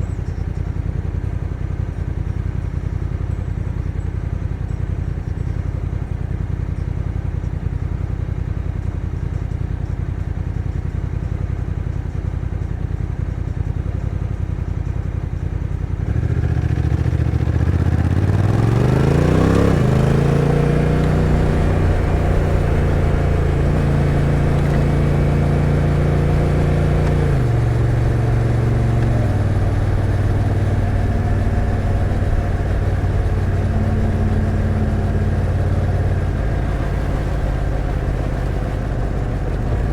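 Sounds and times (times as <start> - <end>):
motorcycle engine idling and pulling away: 0.0 - 39.9.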